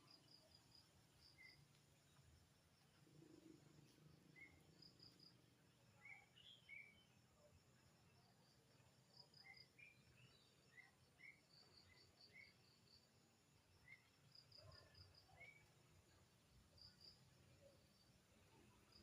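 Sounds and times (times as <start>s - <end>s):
faint outdoor ambience: 0.0s - 19.0s.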